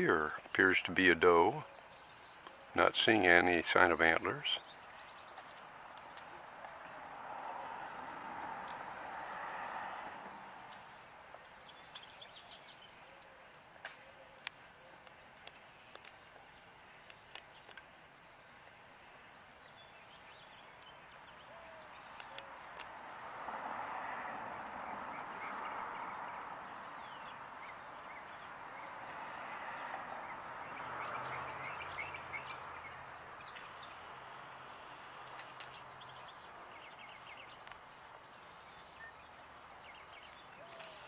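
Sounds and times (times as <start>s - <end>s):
small birds chirping: 0.0s - 7.1s, 8.4s - 8.8s, 10.6s - 23.7s, 24.6s - 29.2s, 29.8s - 41.0s.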